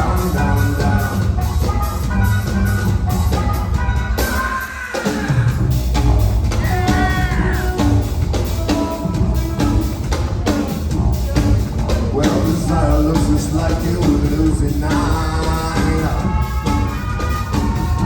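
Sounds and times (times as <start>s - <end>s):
deep bass line: 0.0s - 4.4s, 5.4s - 18.0s
drum kit beat: 0.0s - 18.0s.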